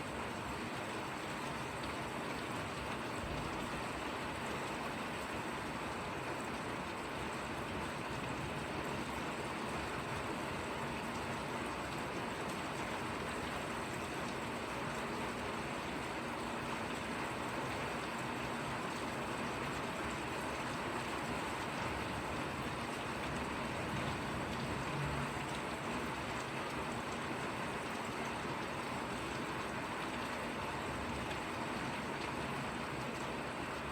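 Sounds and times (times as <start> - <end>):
drizzling rain: 0.0 - 33.9.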